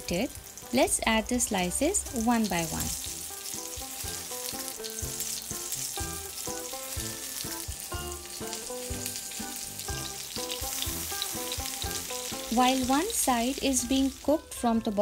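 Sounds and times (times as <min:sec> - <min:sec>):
background music: 0:00.0 - 0:15.0
vegetable slices sizzling in oil: 0:00.0 - 0:15.0.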